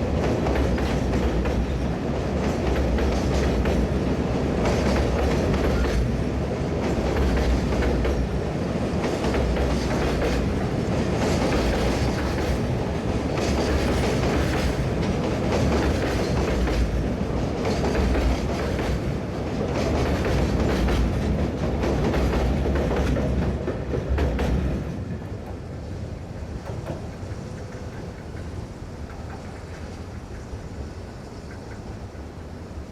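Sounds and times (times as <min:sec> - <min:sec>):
train rumble: 0:00.0 - 0:32.9
train wheels clacking over rail joints: 0:00.0 - 0:32.9.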